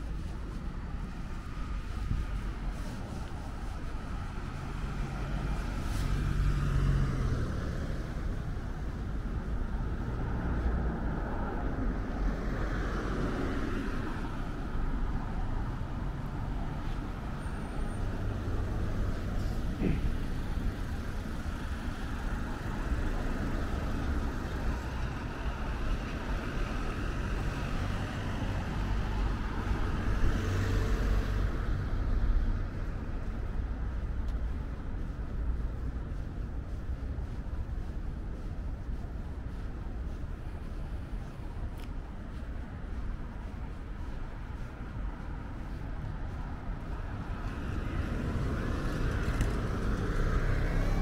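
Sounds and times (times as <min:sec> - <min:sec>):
cars passing: 0:00.0 - 0:51.0.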